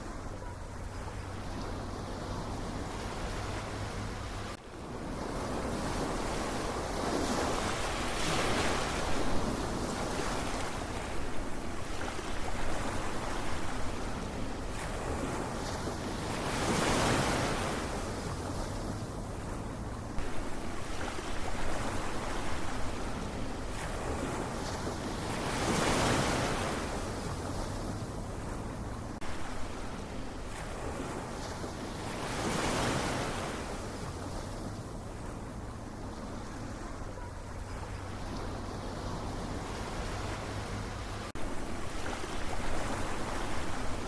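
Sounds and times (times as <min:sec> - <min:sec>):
ocean waves rolling in: 0:00.0 - 0:44.0.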